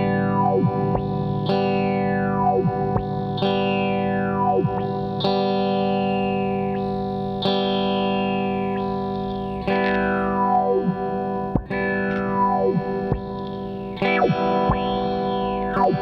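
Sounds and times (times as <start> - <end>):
phased electric guitar chords: 0.0 - 16.0.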